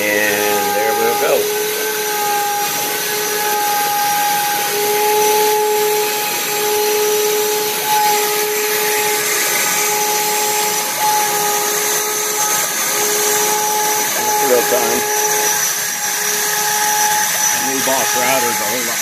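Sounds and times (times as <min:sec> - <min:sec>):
dust collection airflow rush: 0:00.0 - 0:19.0
router spindle high whine: 0:00.0 - 0:19.0.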